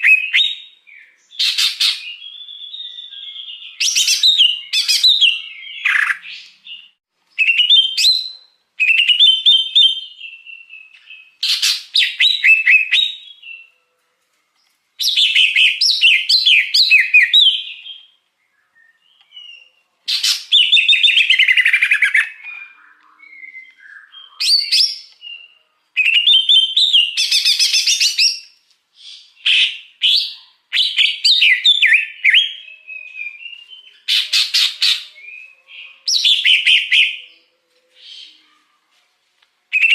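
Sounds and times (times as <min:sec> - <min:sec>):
bird singing chirps and whistles: 0:00.0 - 0:13.8, 0:15.0 - 0:38.4.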